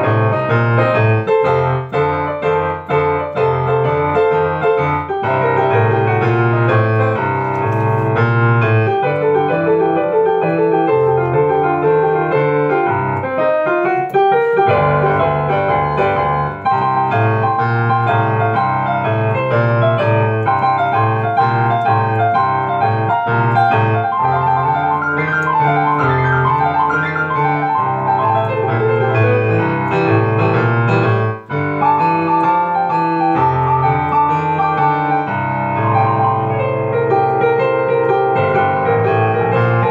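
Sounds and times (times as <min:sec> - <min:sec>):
upright piano playing: 0:00.0 - 0:39.9.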